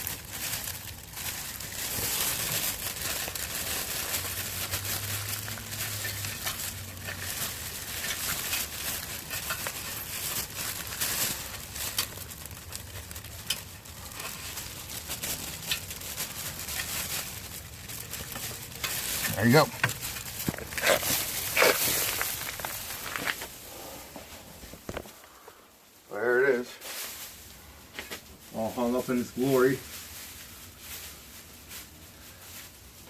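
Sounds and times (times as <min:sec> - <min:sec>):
sheet crinkling and rustling: 0:00.0 - 0:25.6, 0:26.4 - 0:33.0.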